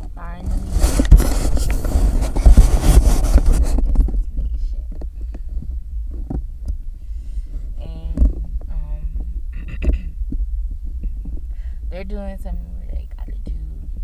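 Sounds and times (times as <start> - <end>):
car interior rumble: 0.0 - 14.0
phone microphone rustling: 0.0 - 14.0.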